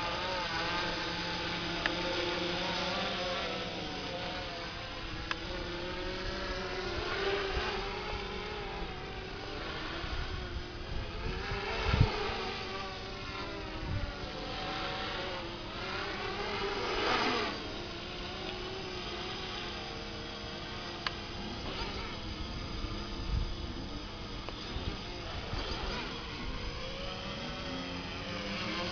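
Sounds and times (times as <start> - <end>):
drone propellers buzzing: 0.0 - 28.9.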